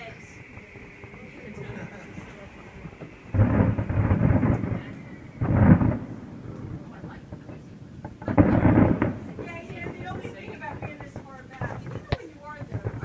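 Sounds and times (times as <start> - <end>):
fireworks booming overhead: 0.0 - 13.0.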